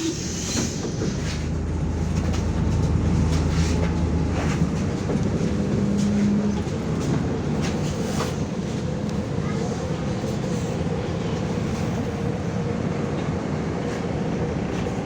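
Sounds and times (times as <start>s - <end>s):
bus body clicks and rattles: 0.0s - 15.0s
bus diesel engine droning: 0.0s - 15.0s.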